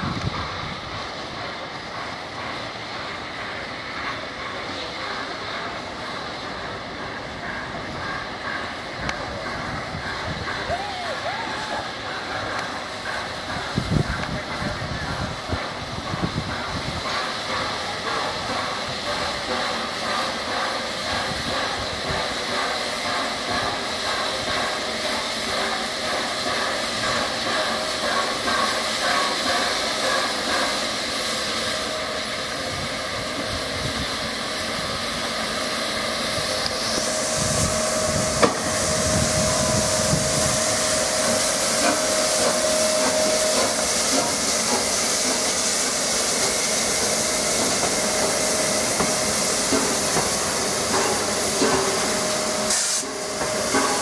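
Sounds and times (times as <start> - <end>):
steam hissing: 0.0 - 54.0.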